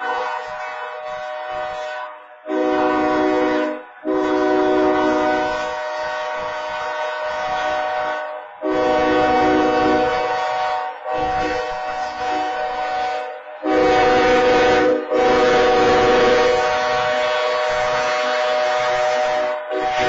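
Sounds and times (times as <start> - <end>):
locomotive air horn blasts: 0.0 - 20.0
steady wayside horn tone: 0.0 - 20.0.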